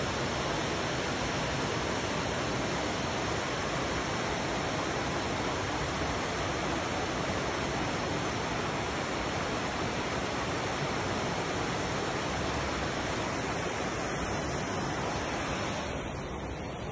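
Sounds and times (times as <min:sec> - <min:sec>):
waterfall rushing over rocks: 0:00.0 - 0:16.9.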